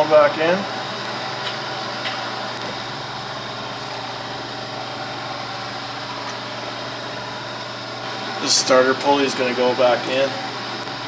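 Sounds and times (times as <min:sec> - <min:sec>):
machine humming and whirring: 0:00.0 - 0:11.0.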